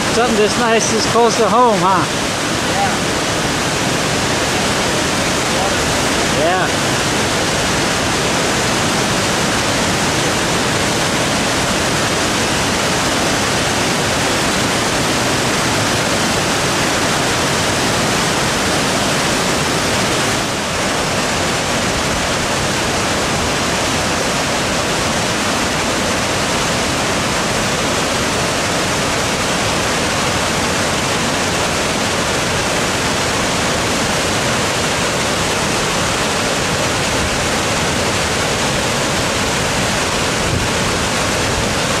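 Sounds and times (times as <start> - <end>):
water rushing down a waterfall: 0.0 - 42.0.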